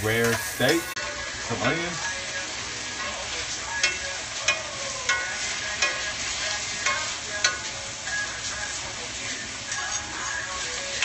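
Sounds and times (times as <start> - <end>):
meat sizzling in a skillet: 0.0 - 11.0.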